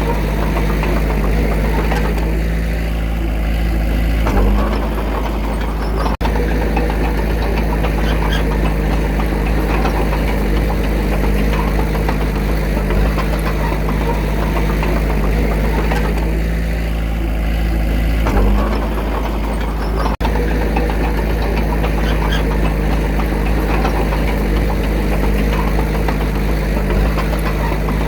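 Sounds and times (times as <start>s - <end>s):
diesel engine clattering: 0.0s - 28.0s.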